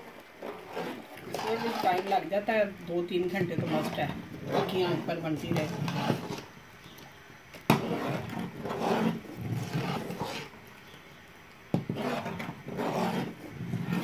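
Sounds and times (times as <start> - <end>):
ladle stirring in a pot: 0.0 - 11.0, 11.7 - 14.0.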